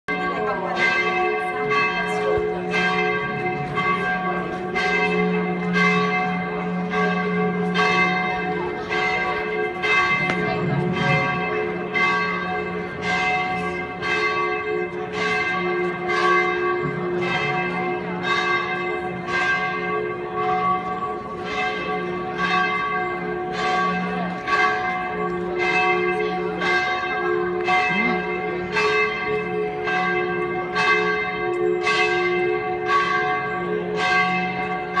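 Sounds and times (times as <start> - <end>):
church bells ringing: 0.1 - 35.0.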